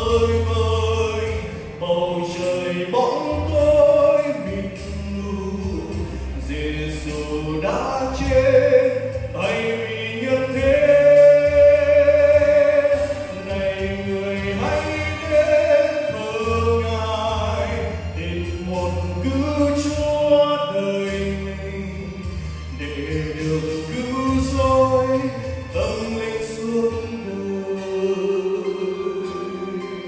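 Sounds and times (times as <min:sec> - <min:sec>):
instrumental accompaniment: 0:00.0 - 0:30.0
man singing through microphone: 0:00.0 - 0:30.0.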